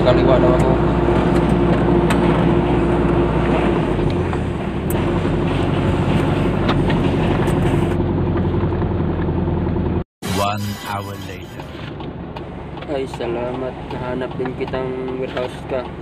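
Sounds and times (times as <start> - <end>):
road noise: 0.0 - 16.0
truck engine running: 0.0 - 16.0.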